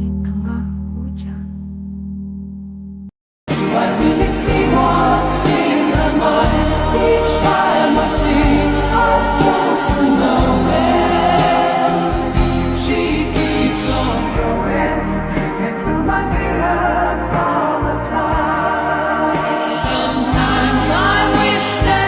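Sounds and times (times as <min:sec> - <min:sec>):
steady bass: 0:00.0 - 0:22.0
choir-like singing: 0:03.5 - 0:22.0.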